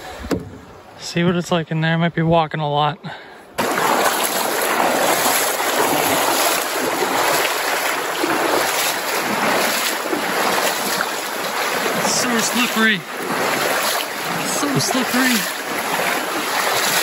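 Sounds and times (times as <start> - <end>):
creek water rushing around legs: 3.2 - 17.0.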